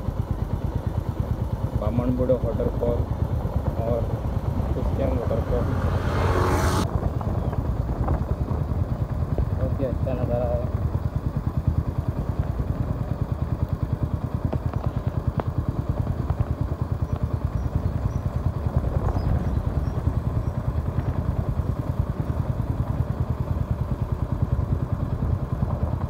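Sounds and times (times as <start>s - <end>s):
motorcycle engine pulsing: 0.0s - 26.0s.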